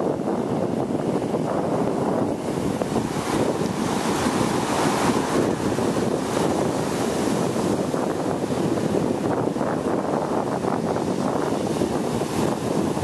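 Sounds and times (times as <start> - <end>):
sea surf breaking on beach: 0.0 - 13.0
wind buffeting microphone: 0.0 - 13.0.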